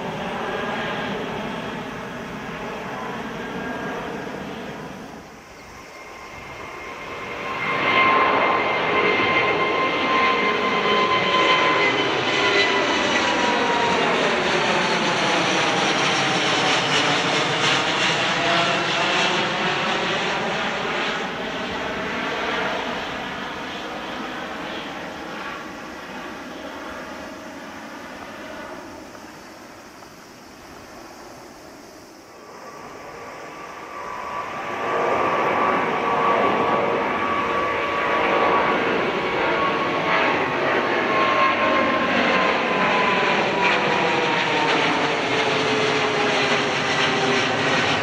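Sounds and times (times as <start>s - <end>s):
departing jet: 0.0s - 48.0s
jet engine roar: 0.0s - 48.0s.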